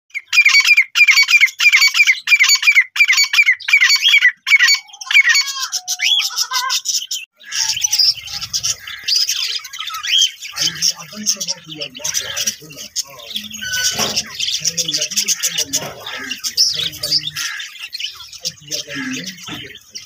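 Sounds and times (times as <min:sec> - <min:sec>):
budgerigars chirping and chattering: 0:00.1 - 0:20.0
francolin calling: 0:00.1 - 0:20.0.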